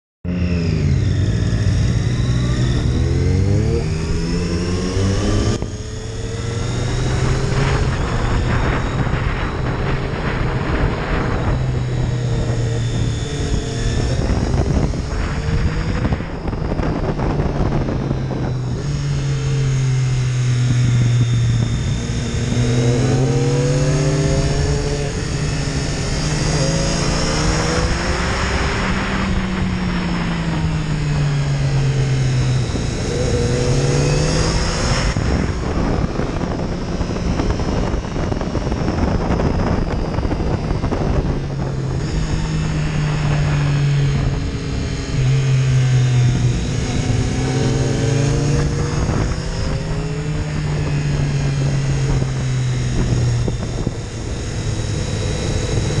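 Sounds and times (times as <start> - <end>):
motorcycle engine revving: 0.2 - 56.0
wind noise: 0.5 - 56.0.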